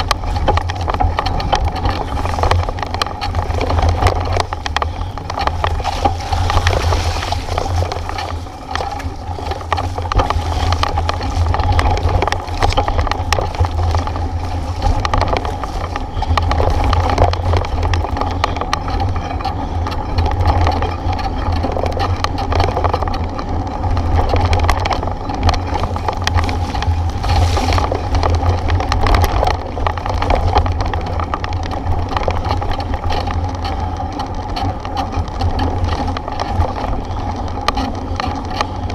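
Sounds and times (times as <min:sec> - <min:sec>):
bike rattling and knocking: 0:00.0 - 0:38.9
wind rumble on microphone: 0:00.0 - 0:38.9.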